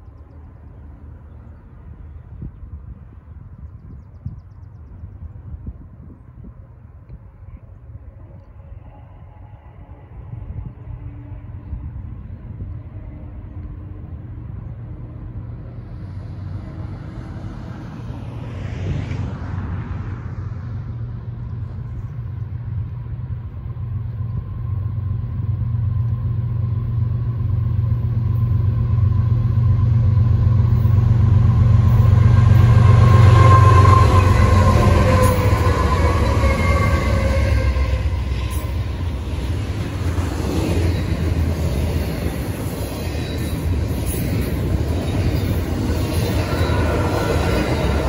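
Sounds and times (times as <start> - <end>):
diesel locomotive engine rumble: 0.0 - 48.0.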